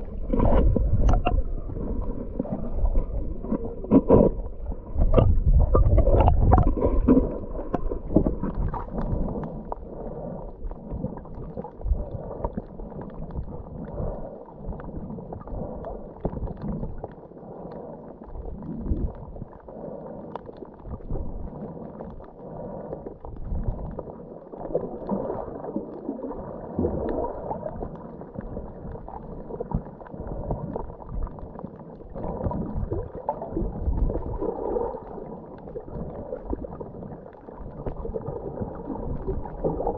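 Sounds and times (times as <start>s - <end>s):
underwater bubbles rushing: 0.0s - 39.9s.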